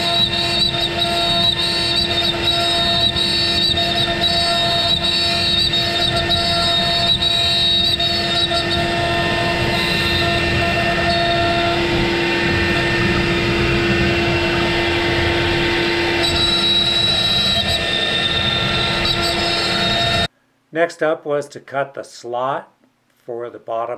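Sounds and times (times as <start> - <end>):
router cutting wood: 0.0 - 20.3
router spindle whine: 0.0 - 20.3.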